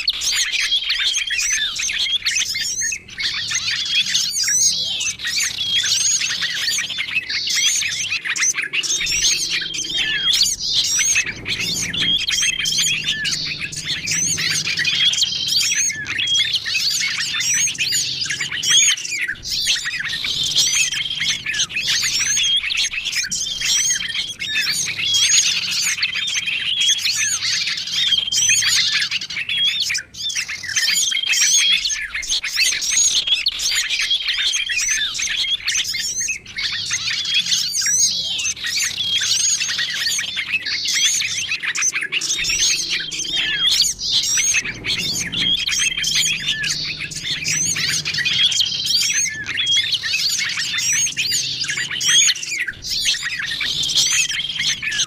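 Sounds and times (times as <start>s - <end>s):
songbirds chirping and chattering: 0.0s - 55.0s.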